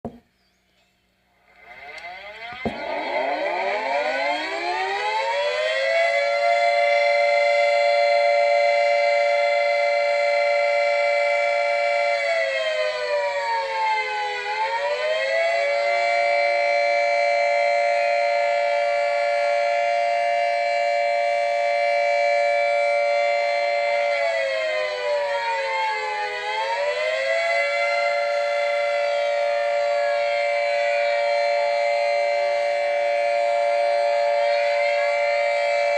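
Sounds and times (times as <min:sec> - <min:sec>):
warning siren winding: 0:01.4 - 0:35.9.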